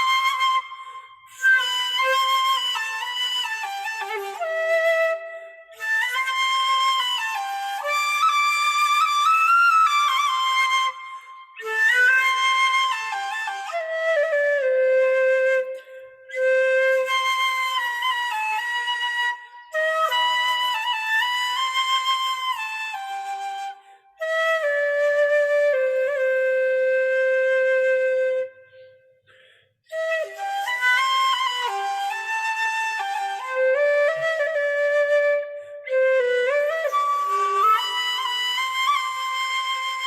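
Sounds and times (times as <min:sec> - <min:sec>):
flute melody: 0:00.0 - 0:29.3, 0:29.9 - 0:40.0.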